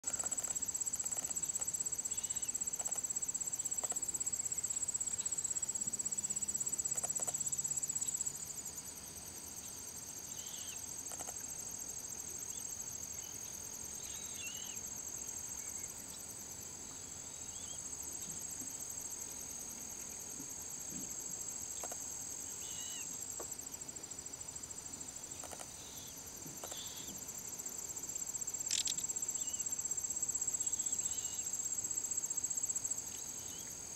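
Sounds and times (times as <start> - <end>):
high-pitched insect chorus: 0.0 - 33.9.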